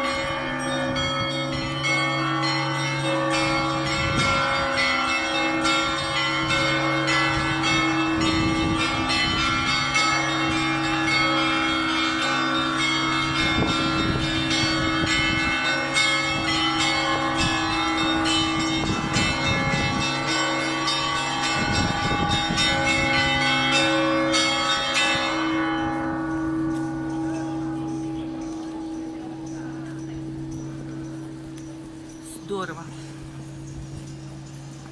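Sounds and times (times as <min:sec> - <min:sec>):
large bells humming: 0:00.0 - 0:34.9.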